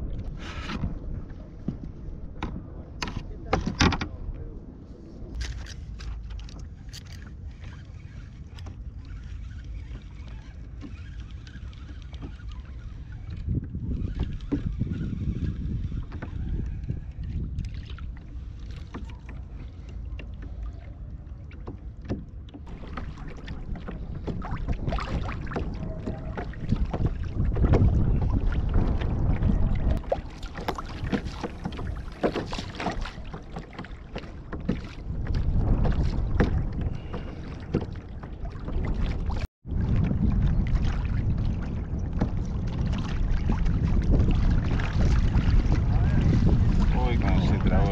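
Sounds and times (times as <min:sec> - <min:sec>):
wind rumble on microphone: 0:00.0 - 0:47.9
water slapping against hull: 0:05.3 - 0:47.9.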